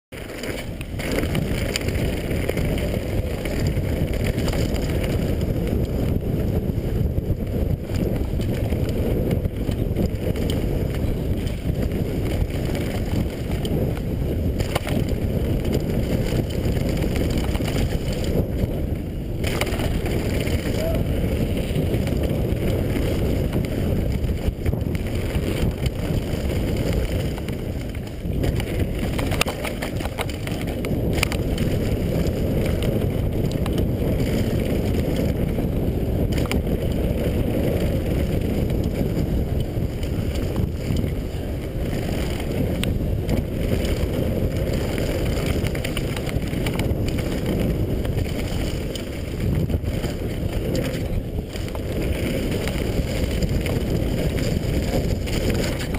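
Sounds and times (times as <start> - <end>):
bike knocks and rattles: 0.1 - 55.9
bike tyres on gravel trail: 0.1 - 55.9
wind buffeting microphone: 0.1 - 55.9.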